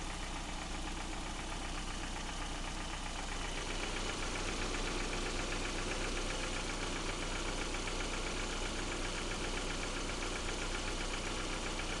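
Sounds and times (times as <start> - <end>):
car engine idling: 0.0 - 12.0
rapid regular engine knock: 0.0 - 12.0.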